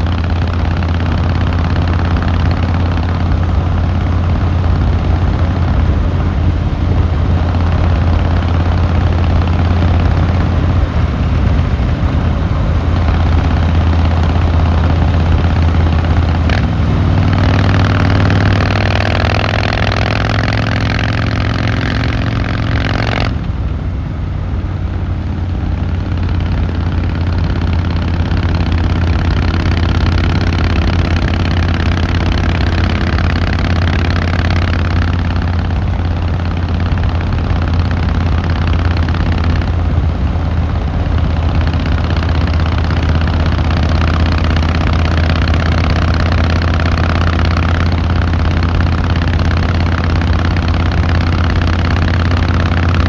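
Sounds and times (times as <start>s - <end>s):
motorcycle engine running steadily: 0.0s - 53.0s.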